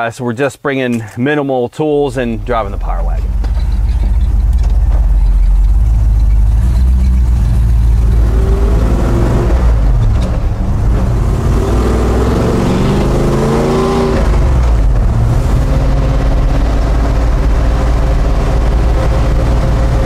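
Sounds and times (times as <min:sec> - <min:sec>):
pickup truck engine: 0:02.0 - 0:20.0.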